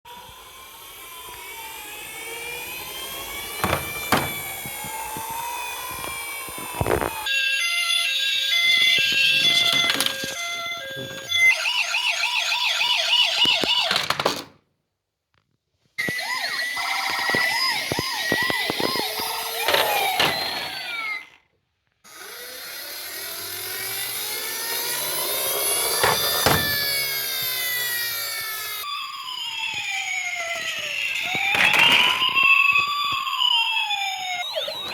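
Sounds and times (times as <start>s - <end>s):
toy electronic siren wailing: 0.1s - 14.1s, 16.0s - 21.5s, 22.1s - 34.9s.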